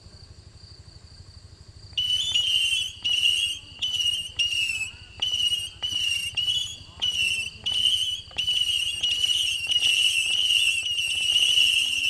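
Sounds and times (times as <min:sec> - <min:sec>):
firework whistle shots: 0:02.0 - 0:12.0.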